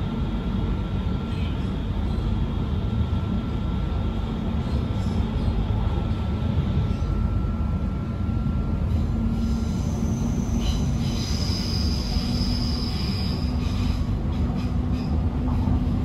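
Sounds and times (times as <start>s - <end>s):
train rumbling from inside carriage: 0.0s - 16.0s.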